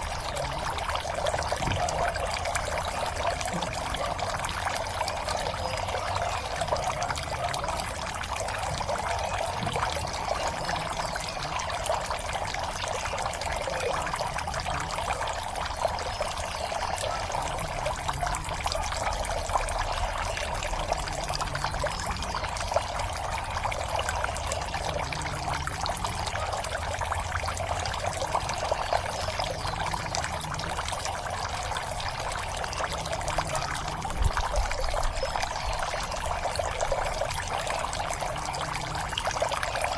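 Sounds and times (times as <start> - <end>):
water pouring into a pond: 0.0 - 39.9.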